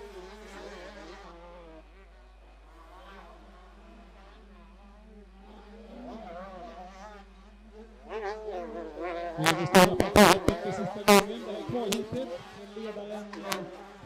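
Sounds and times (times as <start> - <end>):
distant motocross bike engines revving: 0.0 - 14.0.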